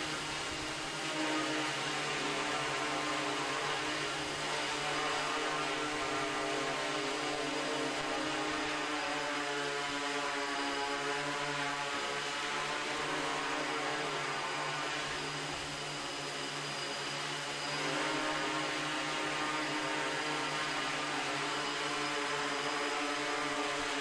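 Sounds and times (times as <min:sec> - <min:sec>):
drone propellers whirring: 0:00.0 - 0:24.0.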